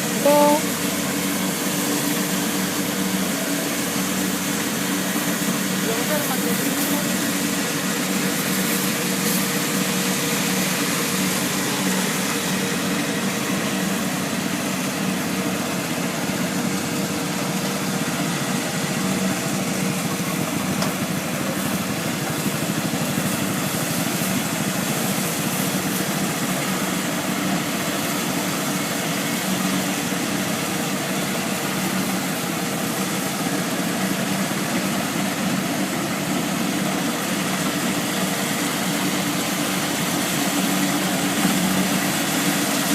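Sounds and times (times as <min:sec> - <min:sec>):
combine harvester engine droning: 0:00.0 - 0:42.9.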